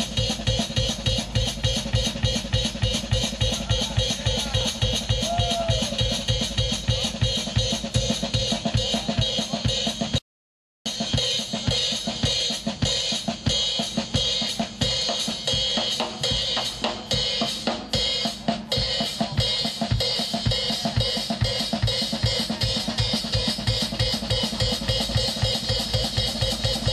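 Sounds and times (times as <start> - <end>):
drum kit solo: 0.0 - 10.2, 10.9 - 26.9.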